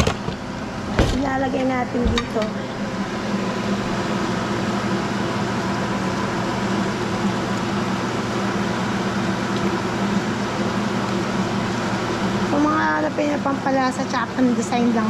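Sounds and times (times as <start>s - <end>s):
mechanical hum: 0.0s - 15.0s
steak frying in oil: 2.8s - 15.0s.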